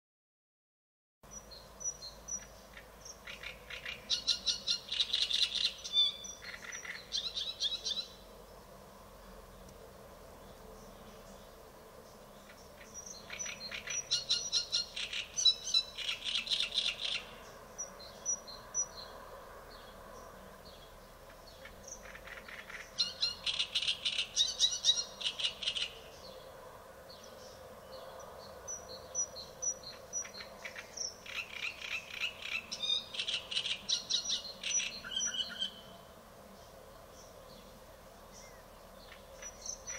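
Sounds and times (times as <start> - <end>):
songbird singing trills: 1.3 - 8.3, 10.4 - 26.5, 27.1 - 39.9.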